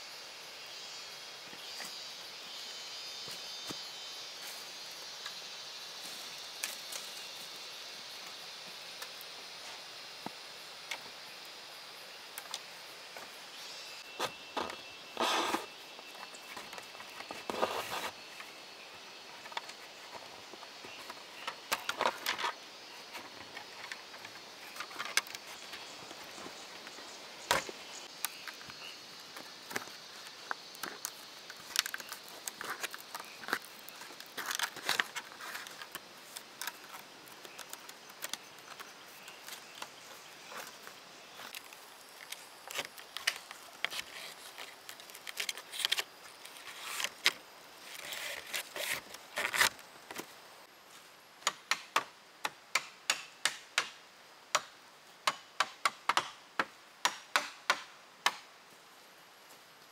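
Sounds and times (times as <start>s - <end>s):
faint background hiss: 0.0s - 59.9s.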